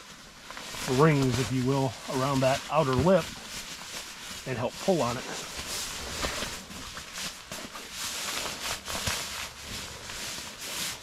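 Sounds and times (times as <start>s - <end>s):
sleeping pad rustling in fabric sack: 0.0s - 11.0s.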